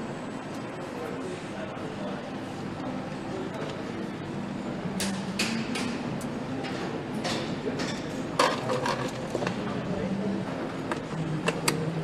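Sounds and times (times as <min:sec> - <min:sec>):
workshop background hum: 0:00.0 - 0:12.0.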